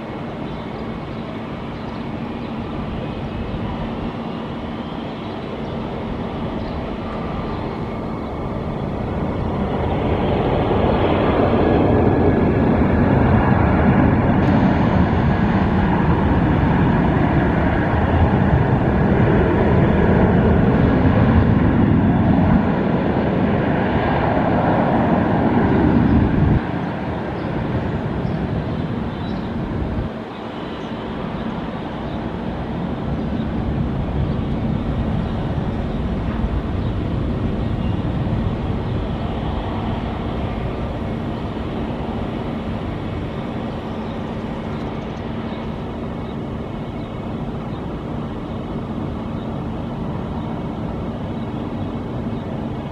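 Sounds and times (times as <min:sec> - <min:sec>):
faint engine whine: 0:00.0 - 0:52.9
jet engines roaring: 0:00.0 - 0:52.9.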